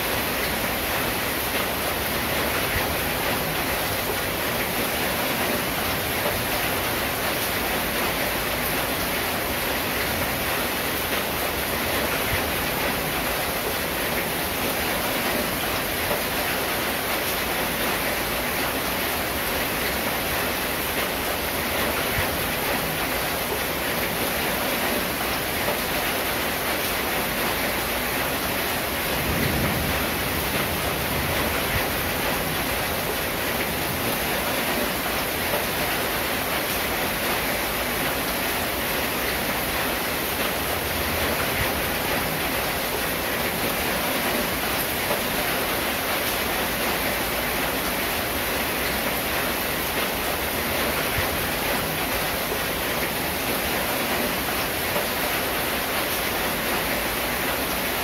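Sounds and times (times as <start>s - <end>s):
rain on a tin roof: 0.0s - 58.0s.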